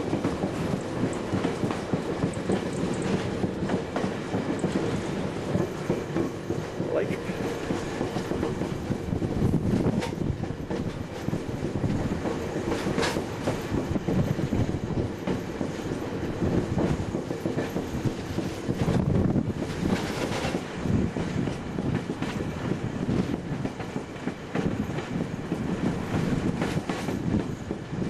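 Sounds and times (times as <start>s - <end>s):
sharp clacks of train wheels: 0.0s - 28.0s
train wheels rumbling on rails: 0.0s - 28.0s.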